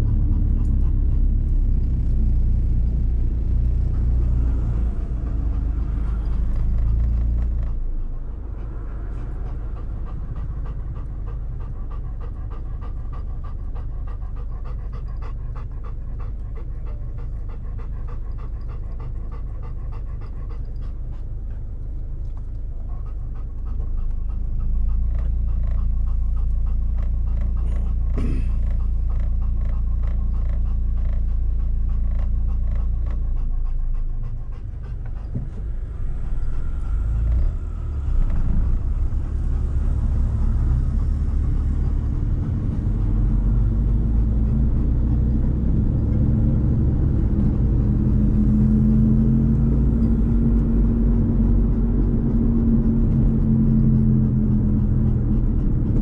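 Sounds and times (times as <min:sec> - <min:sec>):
car rumbling on road: 0:00.0 - 0:56.0
dog panting: 0:00.0 - 0:56.0.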